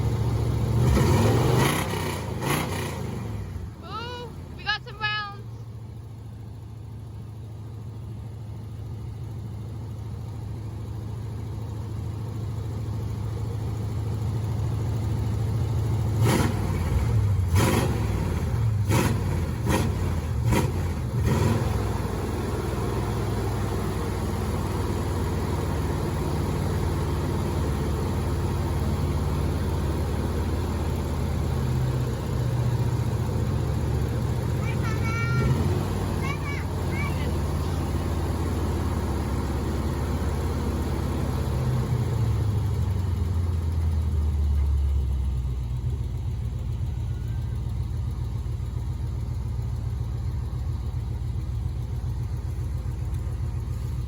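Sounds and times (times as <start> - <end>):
pickup truck engine running: 0.0 - 54.0.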